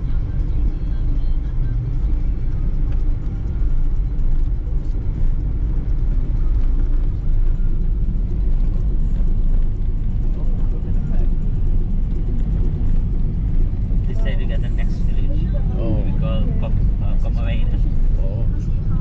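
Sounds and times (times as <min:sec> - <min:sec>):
car tyre and engine rumble: 0:00.0 - 0:19.0.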